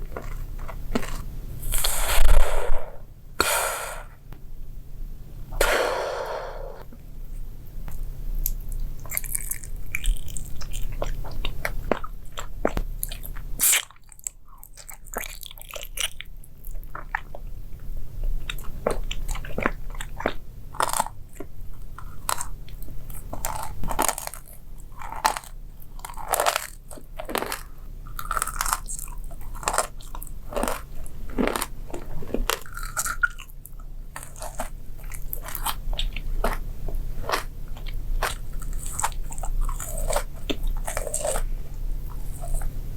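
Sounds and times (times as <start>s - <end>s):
crunchy food chewing: 0.0s - 2.9s, 6.8s - 42.9s.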